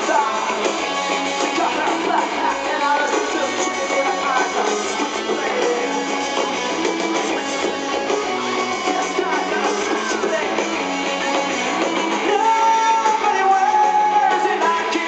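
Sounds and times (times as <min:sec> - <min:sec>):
electric guitar: 0:00.0 - 0:15.0
rock band playing live: 0:00.0 - 0:15.0.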